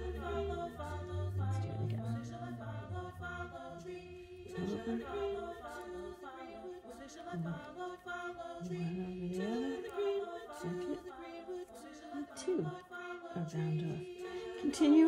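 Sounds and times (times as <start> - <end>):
unaccompanied voices singing: 0.0 - 15.0.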